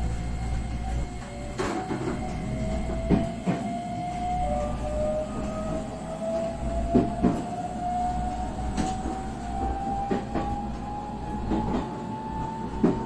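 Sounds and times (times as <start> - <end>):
train motor whine: 0.0 - 13.0.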